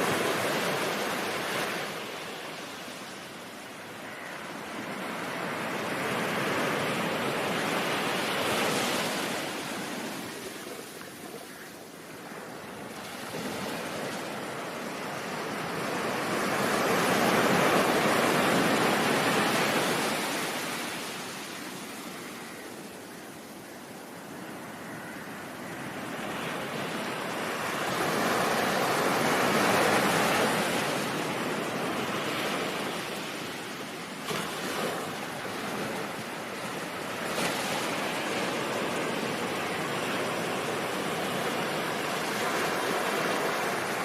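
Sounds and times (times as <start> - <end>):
ocean waves washing in: 0.0 - 23.1, 24.9 - 44.0.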